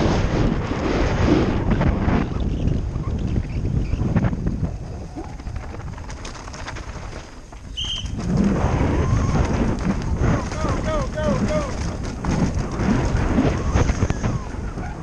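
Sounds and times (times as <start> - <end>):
bike rattling over dirt and rocks: 0.0 - 15.0
wind rushing over microphone: 0.0 - 15.0.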